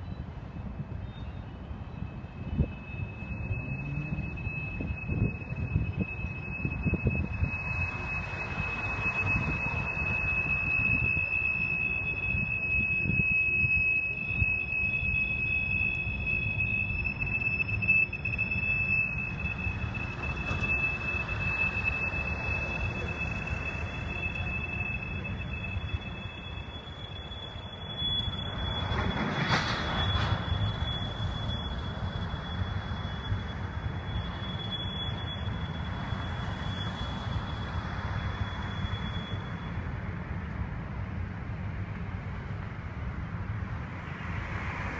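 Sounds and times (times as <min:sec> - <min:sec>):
rush of noise: 0:00.0 - 0:44.9
wheels rumbling on rails: 0:00.0 - 0:44.9
high-pitched wheel squeal: 0:00.9 - 0:40.5.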